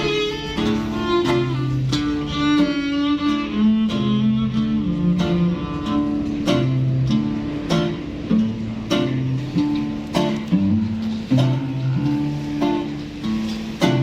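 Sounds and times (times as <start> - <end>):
acoustic band playing instrumental: 0.0 - 14.0.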